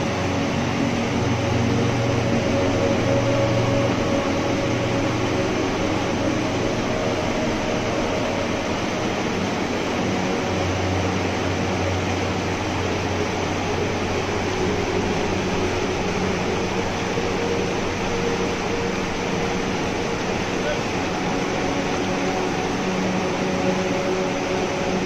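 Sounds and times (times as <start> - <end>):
stream rushing over boulders: 0.0 - 25.0.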